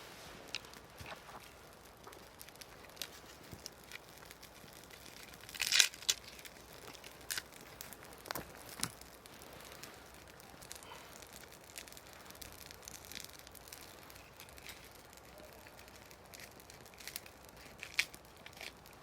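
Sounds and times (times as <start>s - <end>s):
sharp fire cracks: 0.0s - 19.0s
soft fire hiss: 0.0s - 19.0s
wood fire crackling: 0.0s - 19.0s.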